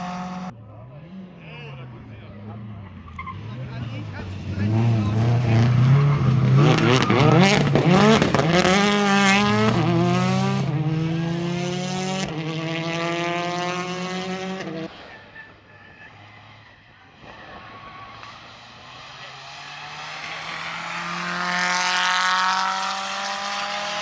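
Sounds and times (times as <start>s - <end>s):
rally car engine revving: 0.0s - 15.6s, 16.4s - 24.0s.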